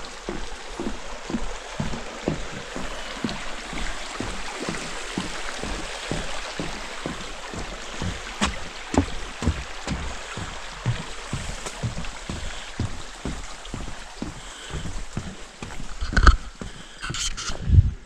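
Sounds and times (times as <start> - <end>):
footsteps on wooden boardwalk: 0.0 - 17.7.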